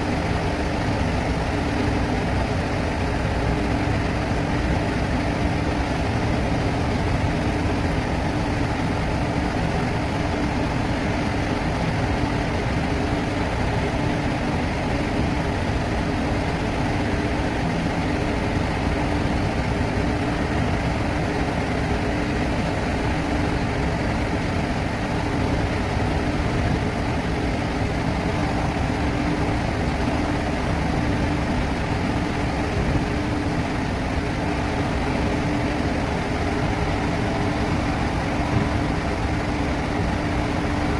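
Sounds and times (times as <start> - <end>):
ship engine drone: 0.0 - 40.9.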